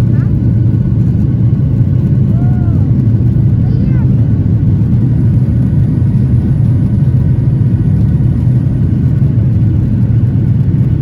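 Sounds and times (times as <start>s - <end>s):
airplane cabin rumble: 0.0s - 11.0s
faint steady whine: 0.0s - 11.0s.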